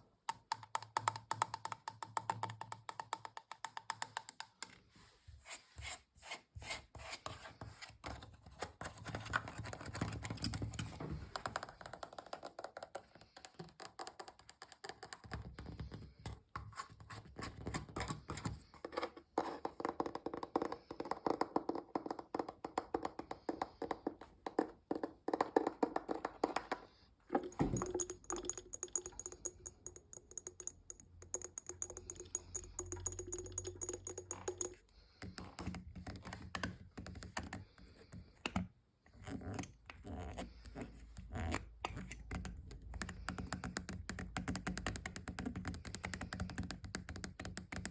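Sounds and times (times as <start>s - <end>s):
fingertips tapping on objects: 0.2s - 4.9s, 7.2s - 47.9s.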